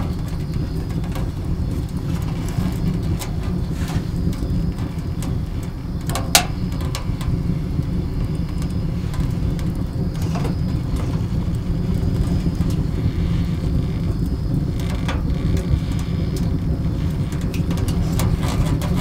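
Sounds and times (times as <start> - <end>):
burning wood crackling and popping: 0.0 - 19.0
fire rumbling in stove: 0.0 - 19.0.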